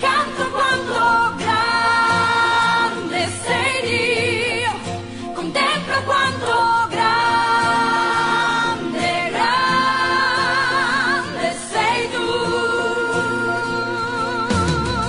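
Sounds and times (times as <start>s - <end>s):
musical accompaniment: 0.0s - 15.0s
person singing worship song: 0.0s - 15.0s.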